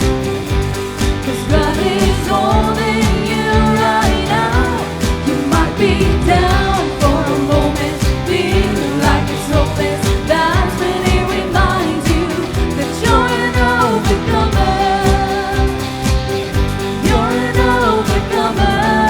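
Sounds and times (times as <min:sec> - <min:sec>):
pop song with singing and band: 0:00.0 - 0:19.0.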